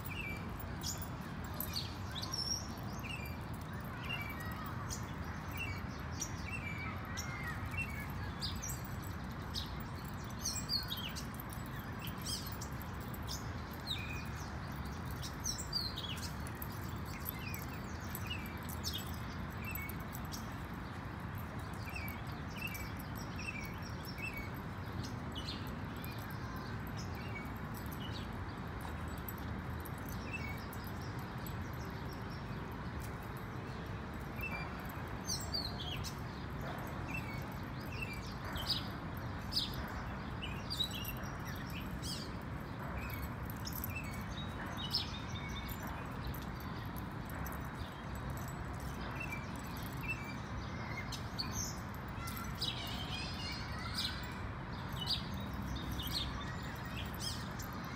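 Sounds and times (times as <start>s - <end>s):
outdoor background noise: 0.0s - 57.9s.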